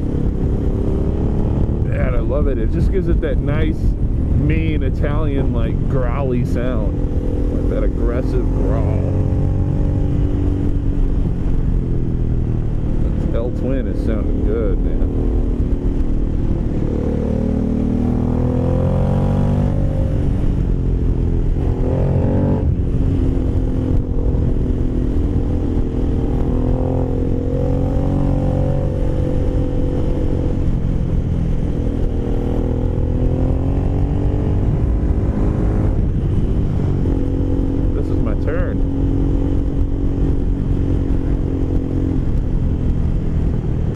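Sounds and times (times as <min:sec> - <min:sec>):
motorcycle engine growling: 0:00.0 - 0:43.9.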